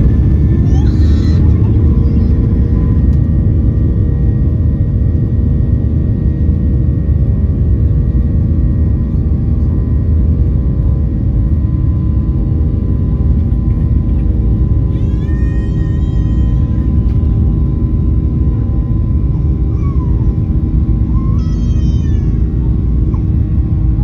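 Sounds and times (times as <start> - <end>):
jet engine cabin drone: 0.0 - 24.0.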